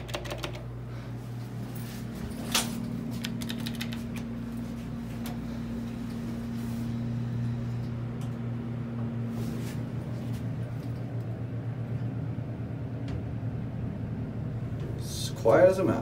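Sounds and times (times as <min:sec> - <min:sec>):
elevator pump motor hum: 0:00.0 - 0:16.0.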